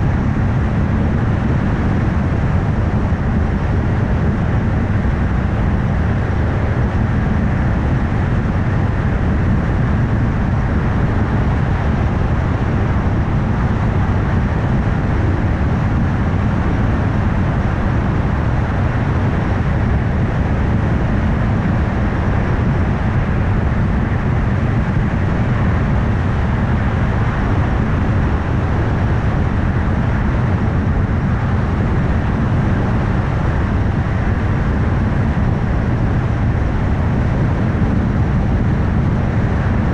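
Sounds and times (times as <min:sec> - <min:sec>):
low engine hum: 0:00.0 - 0:39.9.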